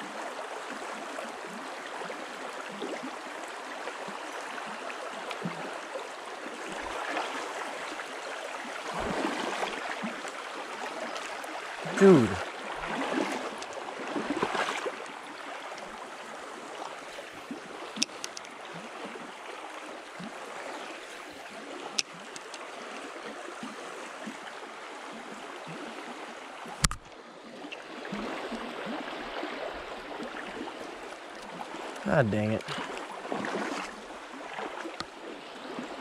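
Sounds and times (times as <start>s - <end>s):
stream water over rocks: 0.0s - 36.0s.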